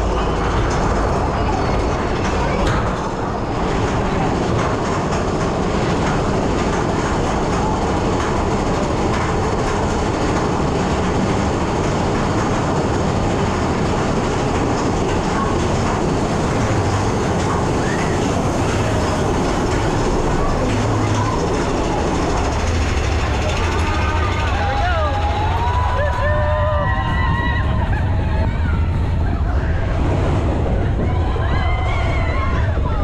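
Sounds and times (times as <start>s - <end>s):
roller coaster rumble and clatter: 0.0s - 33.0s.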